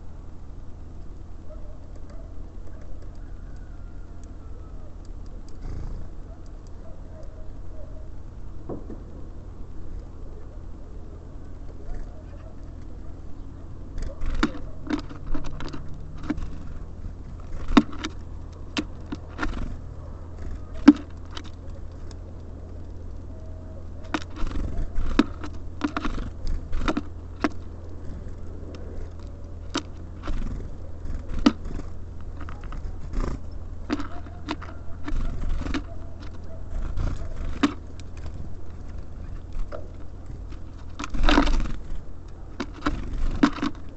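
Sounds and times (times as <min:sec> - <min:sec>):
birds pecking and cracking seeds: 0:00.0 - 0:43.9.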